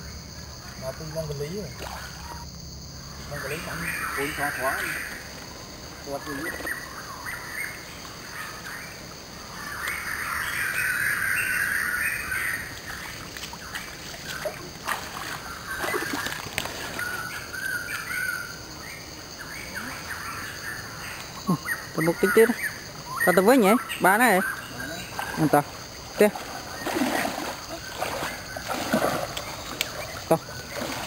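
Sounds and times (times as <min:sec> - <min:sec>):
stream water trickling: 0:01.4 - 0:19.4, 0:22.0 - 0:31.0
birds chirping and calling: 0:03.1 - 0:31.0.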